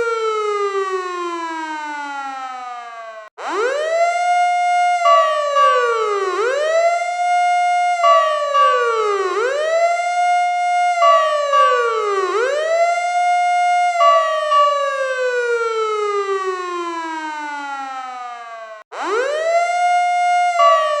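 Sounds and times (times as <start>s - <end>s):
fire truck siren wailing: 0.0s - 21.0s.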